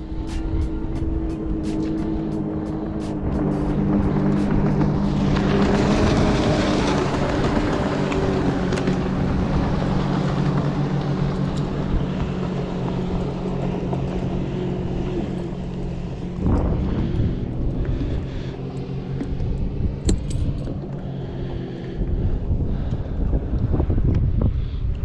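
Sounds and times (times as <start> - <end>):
boat motor running: 0.0 - 25.0
rushing wind: 0.0 - 25.0
water noise: 0.0 - 25.0.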